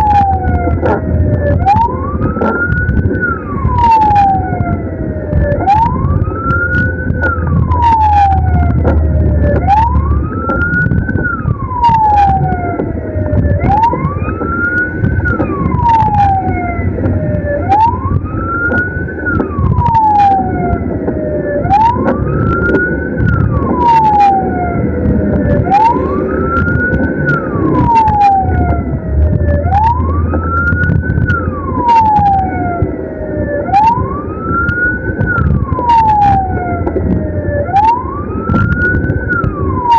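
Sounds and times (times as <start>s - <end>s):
ambulance siren wailing: 0.0s - 39.9s
road noise: 0.0s - 39.9s
vehicle engine rumble: 0.0s - 39.9s.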